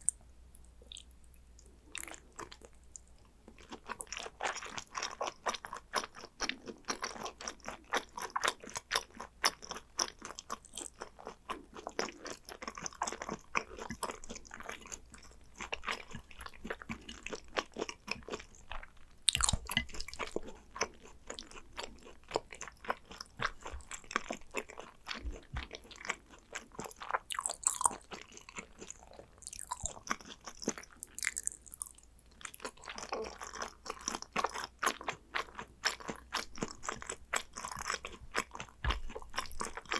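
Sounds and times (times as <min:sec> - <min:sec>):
chewing and crunching: 0:00.8 - 0:39.9.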